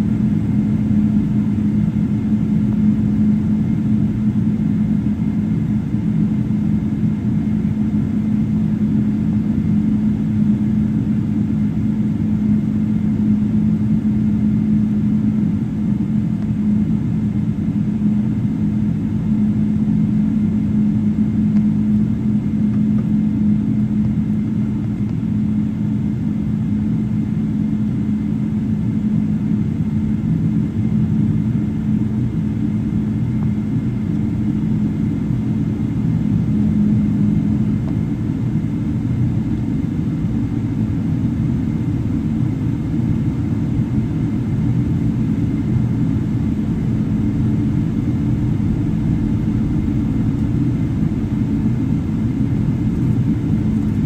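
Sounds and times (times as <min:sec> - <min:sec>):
airplane cabin drone: 0:00.0 - 0:54.0.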